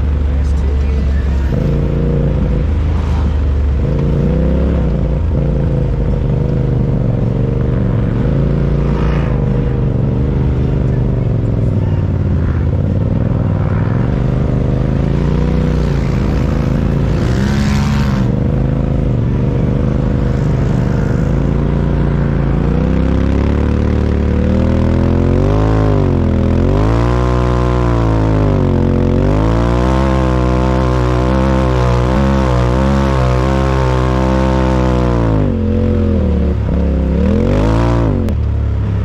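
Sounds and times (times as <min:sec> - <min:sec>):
rush of noise: 0:00.0 - 0:39.0
utility vehicle engine revving: 0:00.0 - 0:39.0.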